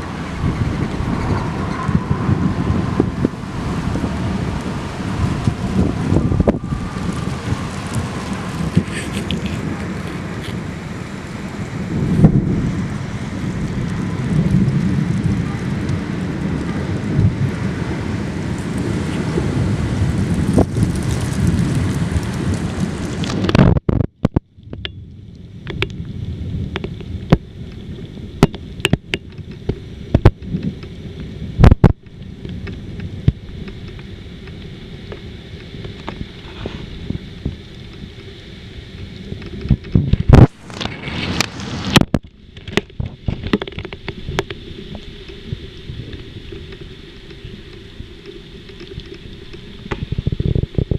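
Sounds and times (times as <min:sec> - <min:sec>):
heavy rain: 0:00.0 - 0:50.9
wind buffeting microphone: 0:00.0 - 0:50.9.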